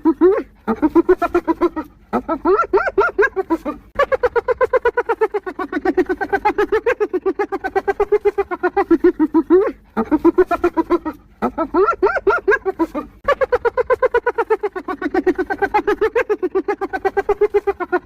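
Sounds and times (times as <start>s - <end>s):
hyena laughing: 0.0s - 18.0s.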